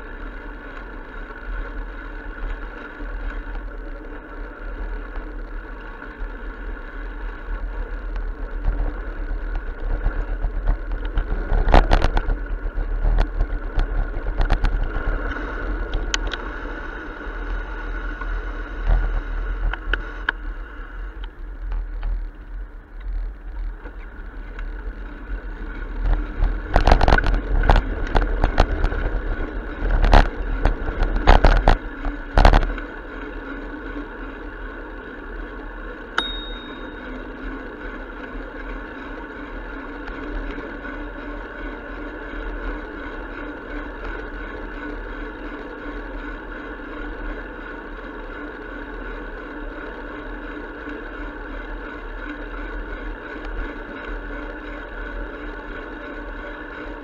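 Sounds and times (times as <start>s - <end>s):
bicycle road and wind rumble: 0.0s - 57.0s.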